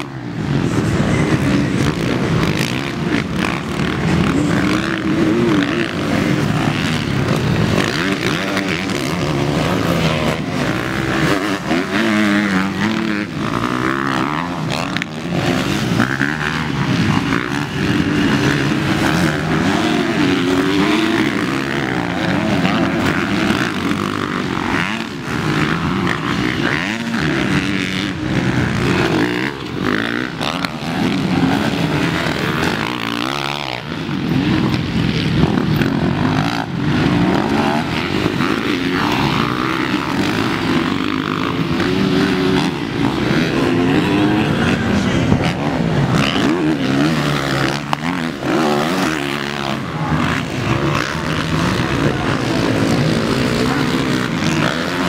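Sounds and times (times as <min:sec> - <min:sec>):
motocross bikes revving past: 0:00.0 - 0:55.0.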